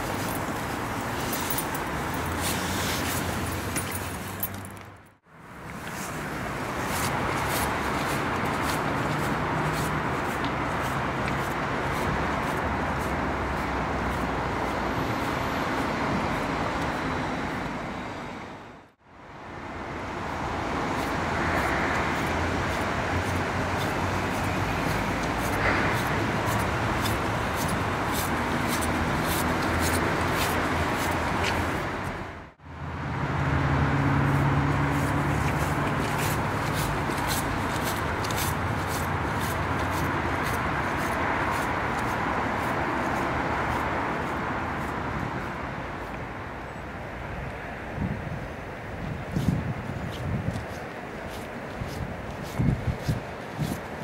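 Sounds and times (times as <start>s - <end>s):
road traffic noise: 0.0s - 54.0s.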